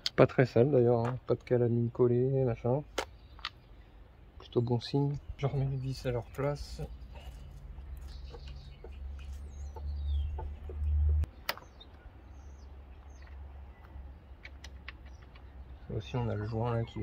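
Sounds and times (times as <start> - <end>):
birds calling: 1.4 - 17.0.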